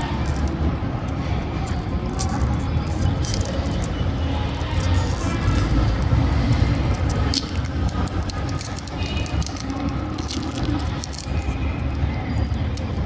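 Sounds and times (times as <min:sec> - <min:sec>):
plastic packaging crinkling: 0:00.0 - 0:13.0
steady low rumble: 0:00.0 - 0:13.0.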